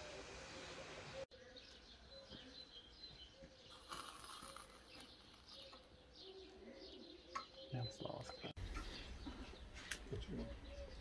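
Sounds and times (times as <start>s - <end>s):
birds chirping quietly: 0.0s - 11.0s.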